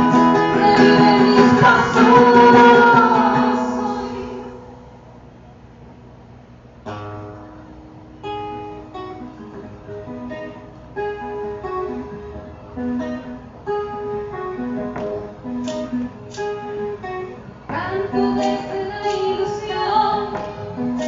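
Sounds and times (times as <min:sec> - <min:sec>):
acoustic guitar playing: 0:00.0 - 0:05.4, 0:06.6 - 0:21.0.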